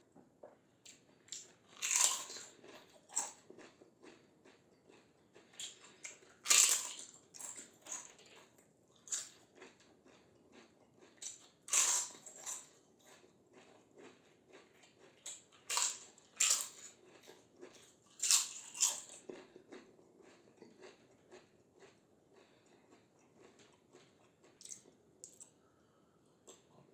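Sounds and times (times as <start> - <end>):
crunching bites of fried snacks: 0.8 - 25.6
crunchy chewing: 0.8 - 25.8.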